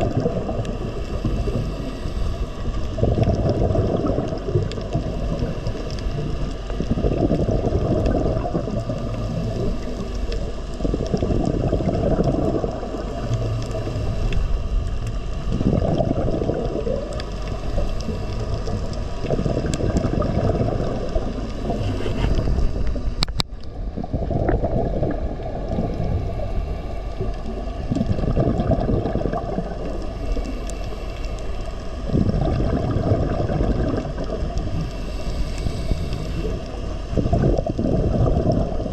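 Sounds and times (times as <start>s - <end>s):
water gurgling and rushing: 0.0s - 38.9s.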